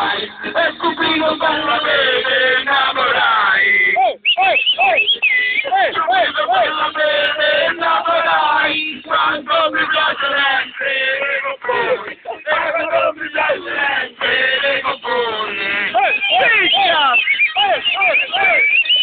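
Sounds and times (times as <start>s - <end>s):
men singing folk chant: 0.0s - 19.0s.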